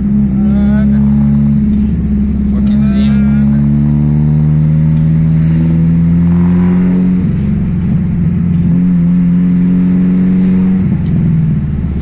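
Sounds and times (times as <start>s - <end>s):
loud car exhaust drone: 0.0s - 12.0s.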